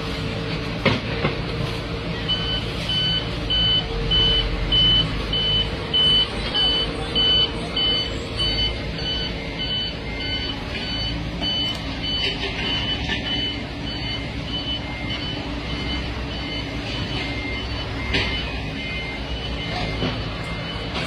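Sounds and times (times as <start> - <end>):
diesel machinery hum: 0.0 - 21.0
reversing alarm beeping: 2.0 - 21.0.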